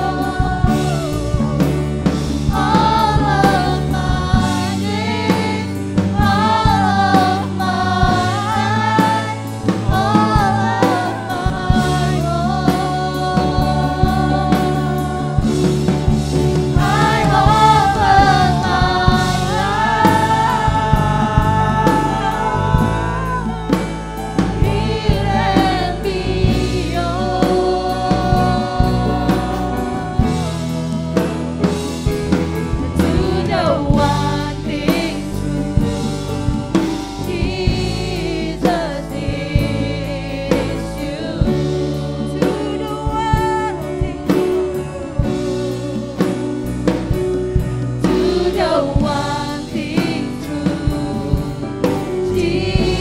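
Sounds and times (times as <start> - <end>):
bass: 0.0 - 53.0
drum kit beat: 0.0 - 53.0
keyboard: 0.0 - 53.0
singers singing: 0.0 - 53.0.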